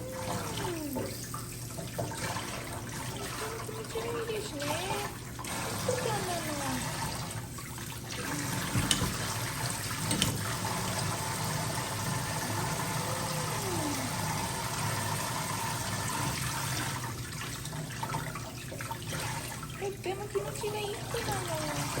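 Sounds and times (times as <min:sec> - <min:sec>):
shower spray running: 0:00.0 - 0:07.4, 0:08.1 - 0:17.2, 0:19.8 - 0:22.0
water splashing: 0:00.0 - 0:22.0.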